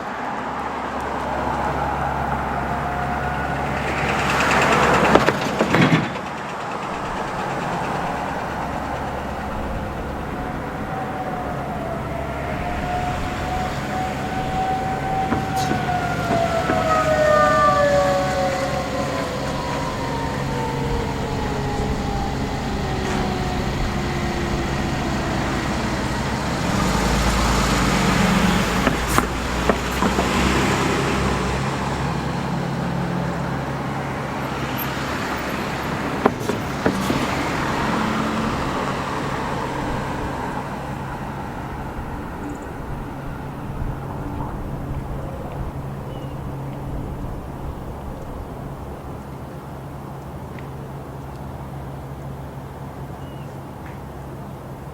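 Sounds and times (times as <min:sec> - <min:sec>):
vehicle passing: 0:00.0 - 0:48.9
traffic rumble: 0:00.0 - 0:54.9
warning siren winding down: 0:01.1 - 0:46.8.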